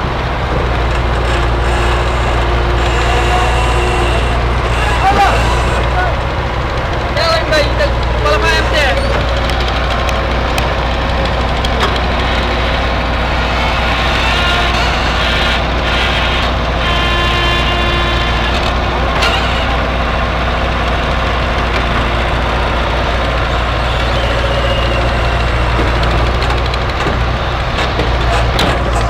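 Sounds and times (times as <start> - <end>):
higher whine: 0.0 - 27.5
large engine humming: 0.0 - 29.0.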